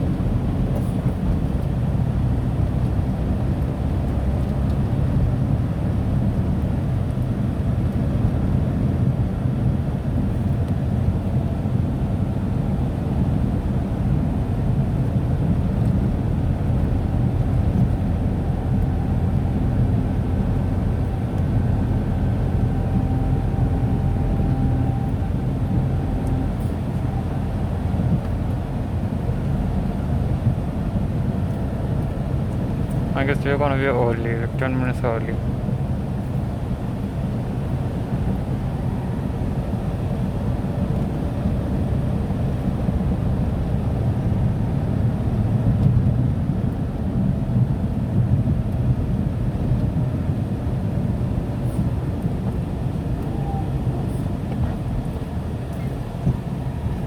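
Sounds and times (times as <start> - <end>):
road and engine rumble in car: 0.0 - 57.0.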